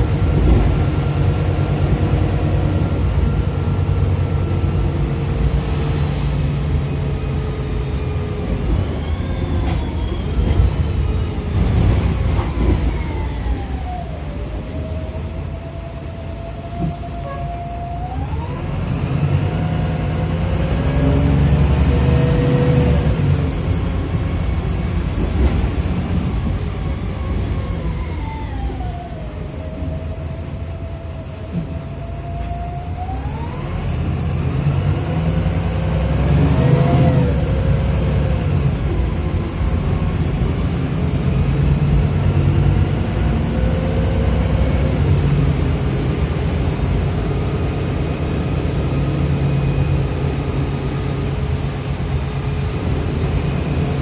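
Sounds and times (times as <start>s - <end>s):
diesel engine rumble: 0.0s - 54.0s.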